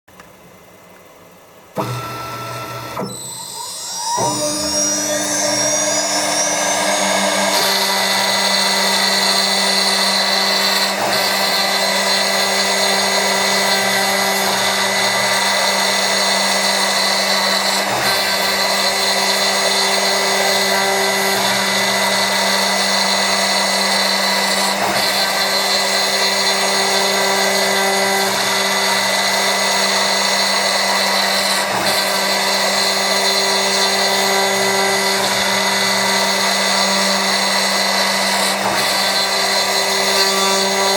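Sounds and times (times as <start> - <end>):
milling machine spindle whine: 1.8 - 40.9.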